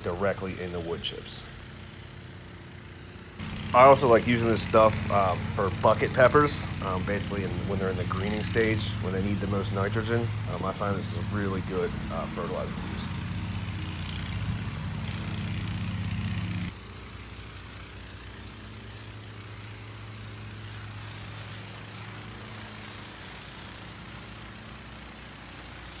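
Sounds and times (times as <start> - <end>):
electric pump humming: 0.0 - 26.0
wand spraying liquid: 0.0 - 26.0.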